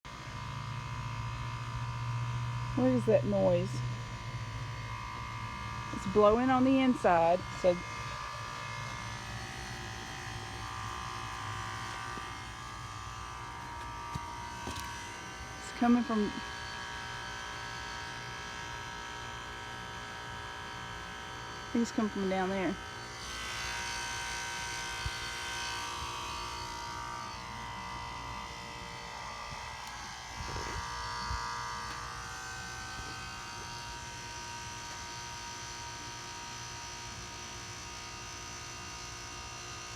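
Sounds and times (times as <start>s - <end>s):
heat pump buzzing: 0.1s - 39.9s.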